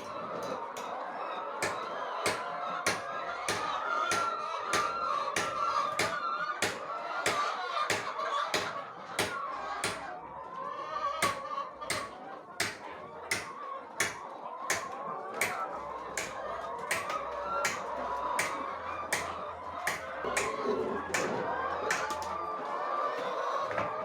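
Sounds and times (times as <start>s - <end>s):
regular sharp knocks: 1.6s - 10.1s, 11.2s - 22.3s.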